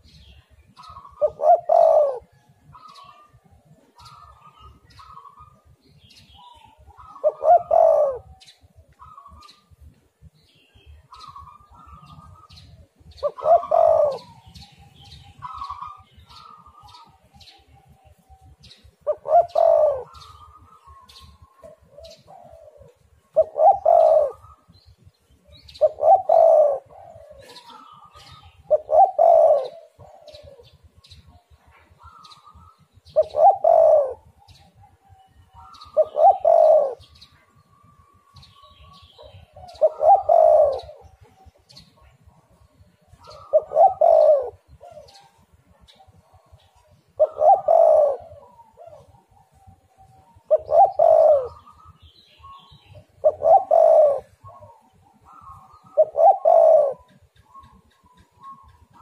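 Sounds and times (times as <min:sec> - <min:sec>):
dove cooing: 0:00.0 - 0:09.9, 0:11.0 - 0:59.0.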